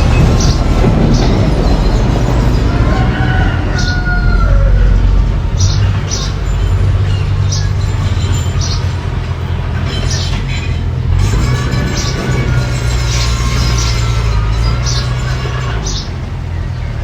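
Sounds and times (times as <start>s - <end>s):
bulldozer engine running: 0.0s - 17.0s
metal track squeals and clanks: 0.0s - 17.0s.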